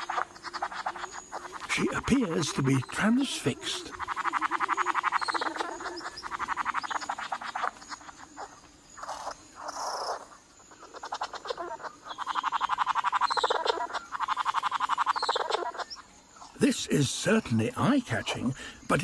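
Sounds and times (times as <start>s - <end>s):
soft bird calls: 0.0s - 19.0s.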